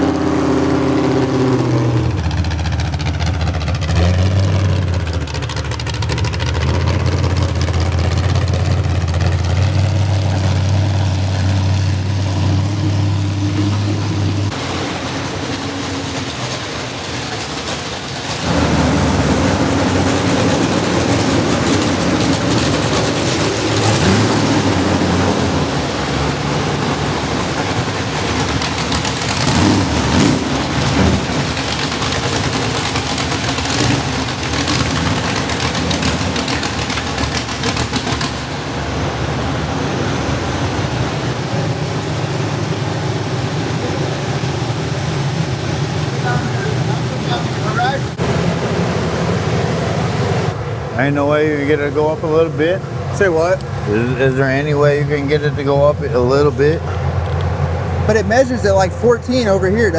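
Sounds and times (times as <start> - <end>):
car engines running: 0.0 - 59.9.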